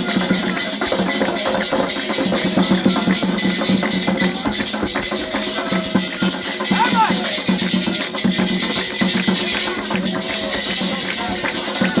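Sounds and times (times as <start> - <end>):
hand drums fast rhythm: 0.0 - 12.0
shakers: 0.0 - 12.0
voices singing: 0.0 - 12.0.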